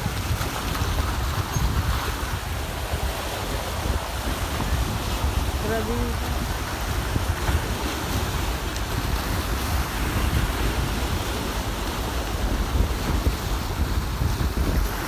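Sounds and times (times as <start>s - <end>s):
sea waves washing in: 0.0s - 15.0s
wind rumbling on microphone: 0.0s - 15.0s.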